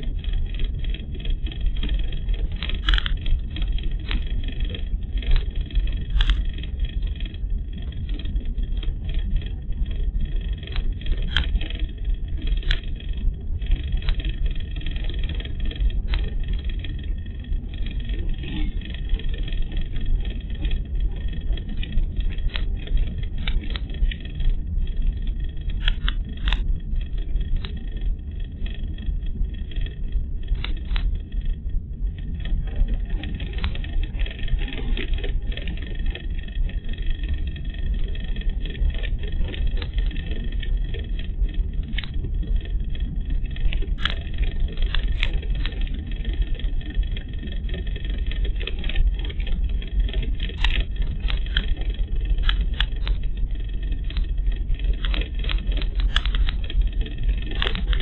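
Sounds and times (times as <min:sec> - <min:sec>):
short clicks and rattles: 0:00.0 - 0:31.6, 0:32.2 - 0:58.0
road and engine rumble: 0:00.0 - 0:58.0.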